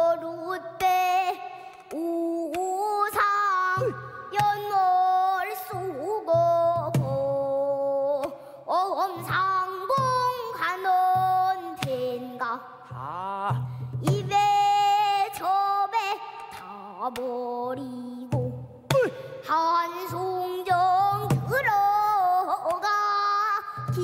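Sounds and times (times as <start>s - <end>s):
girl singing: 0.0s - 24.0s.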